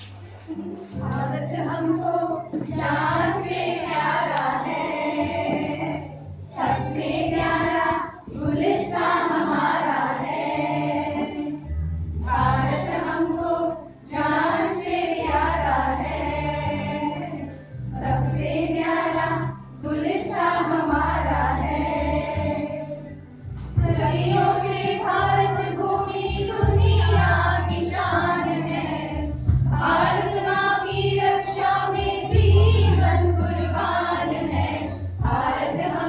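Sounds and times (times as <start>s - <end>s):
children and women singing in unison: 0.0s - 36.0s.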